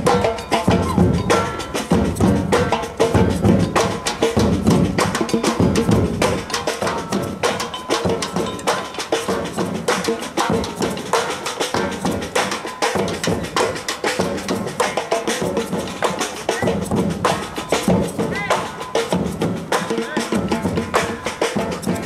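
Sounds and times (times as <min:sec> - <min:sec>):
fast drum and percussion rhythm: 0:00.0 - 0:22.0.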